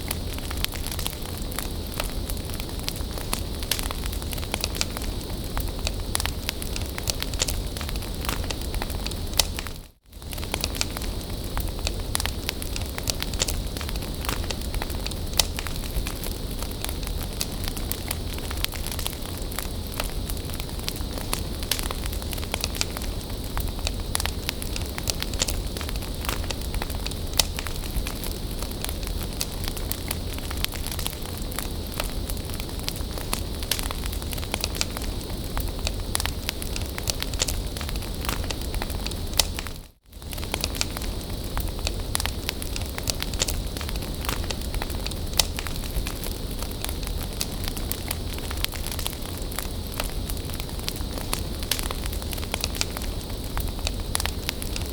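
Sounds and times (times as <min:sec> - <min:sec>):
bonfire crackles and pops: 0:00.0 - 0:54.9
low rumble of flames: 0:00.0 - 0:54.9.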